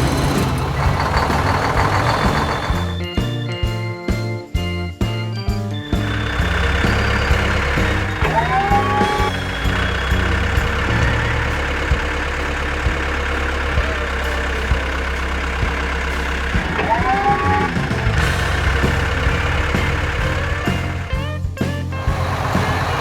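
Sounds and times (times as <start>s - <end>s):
truck engine running: 0.0s - 3.9s, 5.4s - 23.0s.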